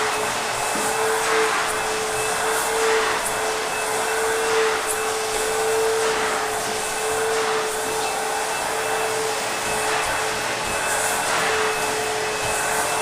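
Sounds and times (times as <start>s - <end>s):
vacuum cleaner motor: 0.0s - 13.0s.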